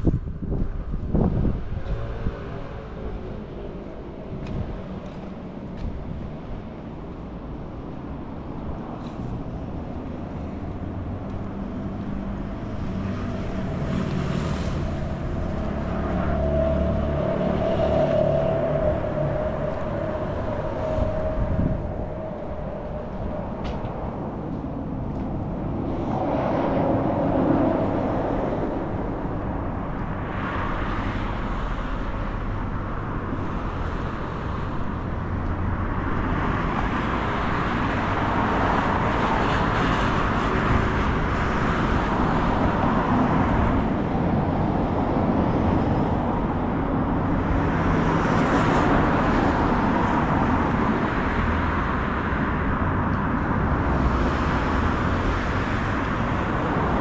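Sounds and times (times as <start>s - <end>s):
vehicles passing by: 0.0s - 57.0s.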